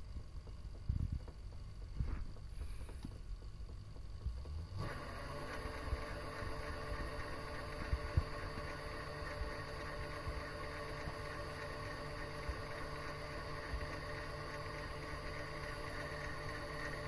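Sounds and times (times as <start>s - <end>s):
lathe motor hum and whine: 1.9s - 17.0s.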